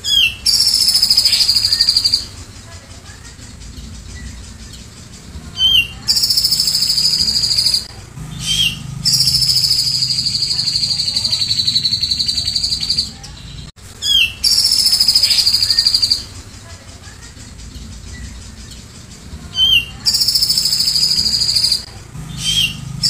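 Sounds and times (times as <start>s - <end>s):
bird chirping: 0.0s - 23.0s
bird singing fast high trills: 0.0s - 23.0s.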